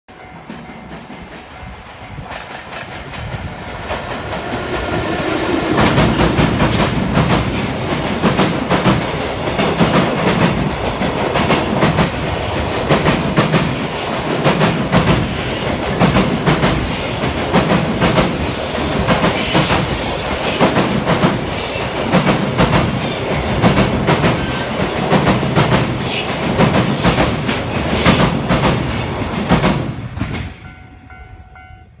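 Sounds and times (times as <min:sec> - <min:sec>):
freight train passing: 0:00.1 - 0:32.0.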